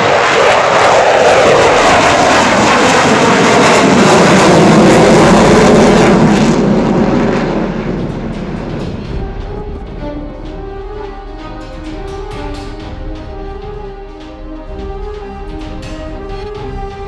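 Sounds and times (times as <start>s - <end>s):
jet aircraft climbing overhead: 0.0s - 17.0s.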